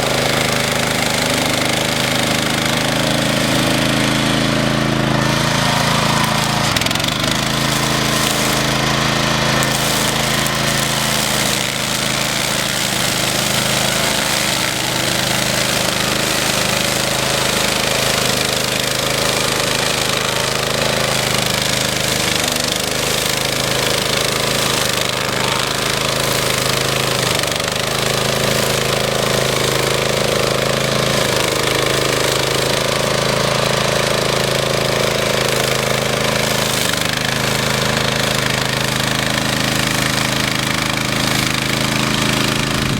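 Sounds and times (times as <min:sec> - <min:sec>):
brush mower engine running: 0:00.0 - 0:42.9.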